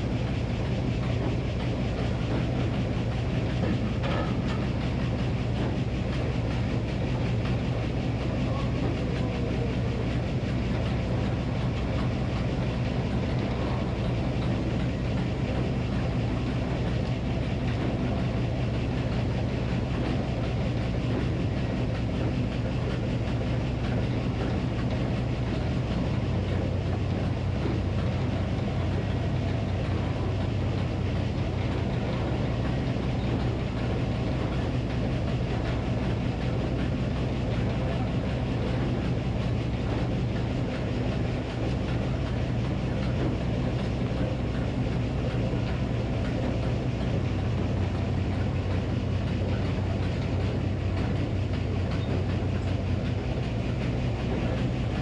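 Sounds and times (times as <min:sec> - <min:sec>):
engine powering sawmill: 0:00.0 - 0:55.0.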